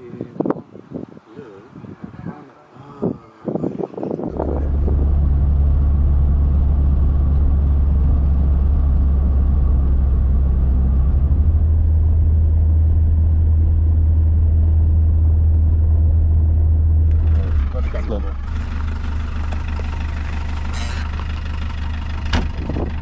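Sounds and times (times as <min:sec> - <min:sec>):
car engine and road drone: 0:04.1 - 0:23.0.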